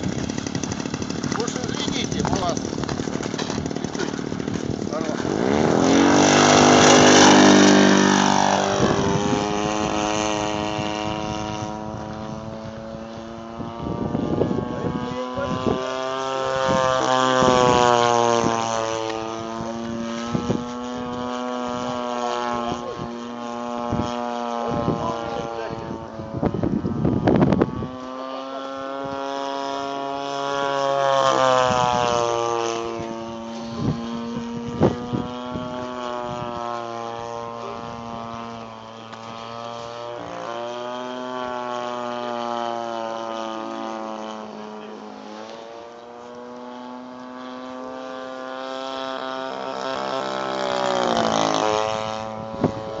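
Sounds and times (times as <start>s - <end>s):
model airplane engine flying overhead: 0.0s - 53.0s.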